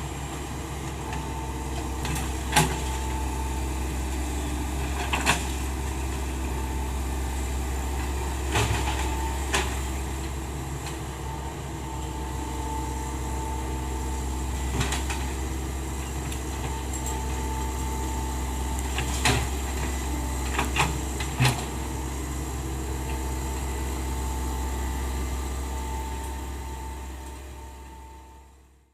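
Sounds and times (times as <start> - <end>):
excavator engine running: 0.0 - 28.9.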